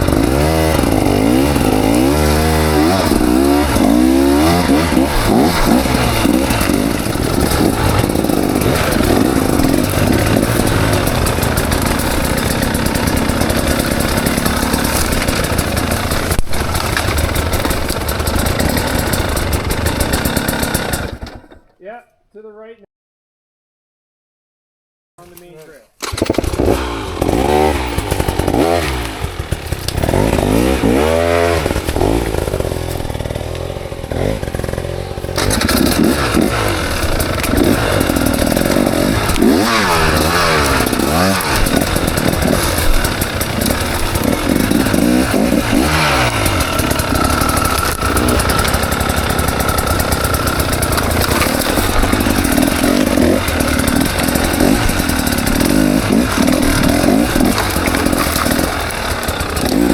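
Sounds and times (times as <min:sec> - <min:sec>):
dirt bike engine revving: 0:00.0 - 0:21.6, 0:26.0 - 0:59.9.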